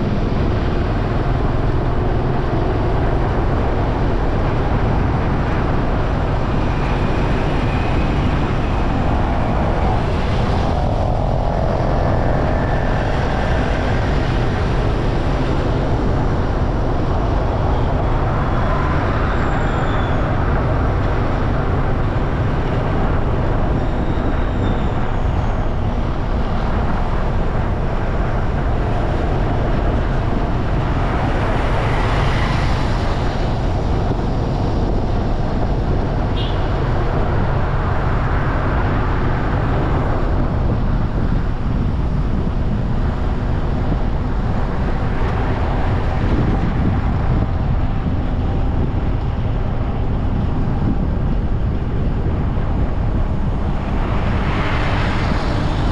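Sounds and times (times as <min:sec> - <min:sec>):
traffic: 0:00.0 - 0:55.9
wind and road noise: 0:00.0 - 0:55.9.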